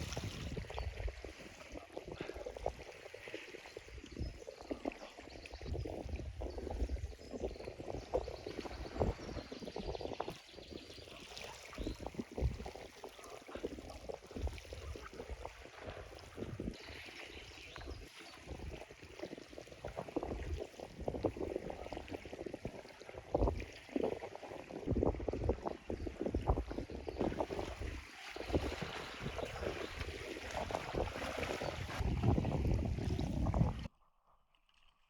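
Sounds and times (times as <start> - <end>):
water splashing around kayak: 0.0 - 33.9.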